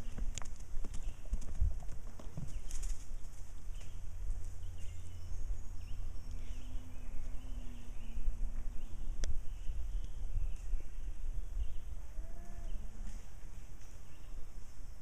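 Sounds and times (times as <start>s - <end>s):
faint steady hum: 0.0s - 15.0s
songbirds chirping: 0.0s - 15.0s
wind rumbling on microphone: 0.0s - 15.0s.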